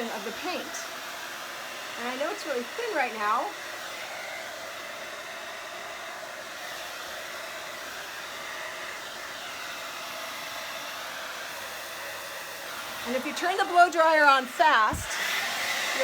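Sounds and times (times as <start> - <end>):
hair dryer blowing air: 0.0 - 16.0.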